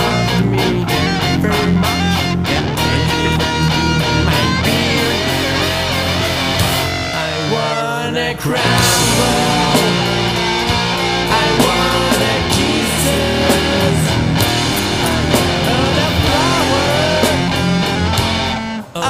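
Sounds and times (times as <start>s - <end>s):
rock band playing: 0.0s - 7.9s, 8.6s - 19.0s
electric guitar bends: 0.0s - 19.0s.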